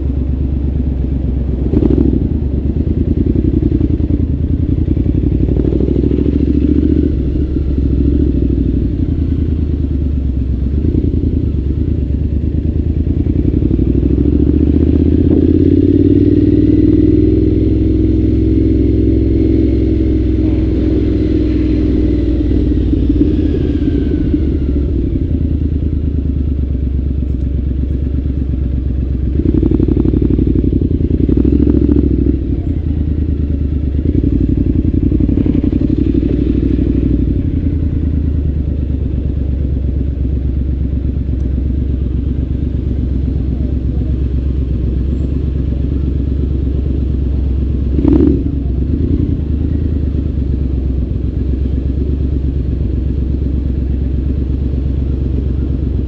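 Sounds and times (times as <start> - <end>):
motorcycle engine exhaust: 0.0 - 56.0.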